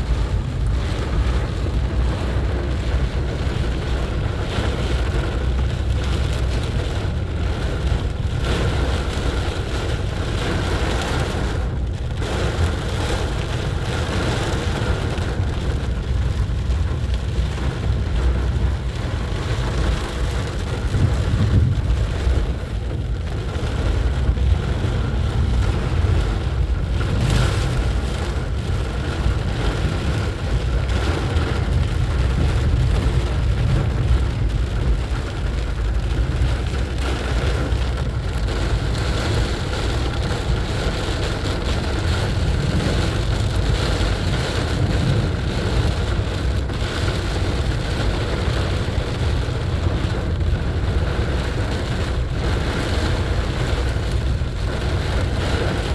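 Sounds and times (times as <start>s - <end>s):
car driving rumble: 0.0s - 55.9s
rain and wet tyres hiss: 0.0s - 55.9s.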